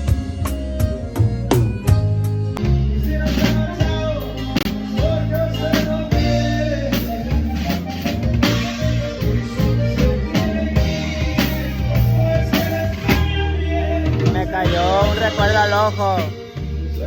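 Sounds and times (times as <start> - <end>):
drum kit steady beat: 0.0 - 17.0
sustained bass notes: 0.0 - 17.0.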